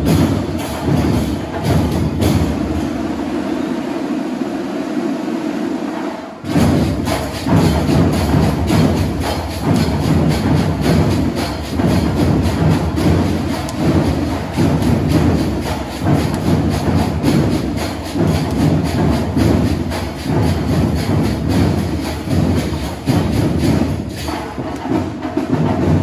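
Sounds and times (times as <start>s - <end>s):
drums driving beat: 0.0s - 26.0s
marching band playing: 0.0s - 26.0s.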